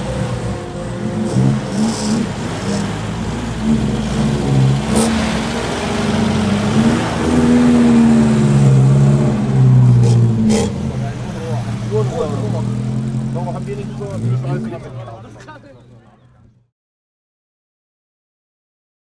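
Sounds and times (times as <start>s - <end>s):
car engine running: 0.0s - 16.7s.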